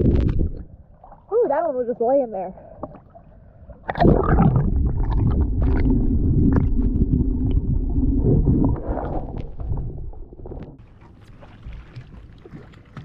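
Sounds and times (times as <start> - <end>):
muffled underwater rumbling and bubbling: 0.0 - 13.0.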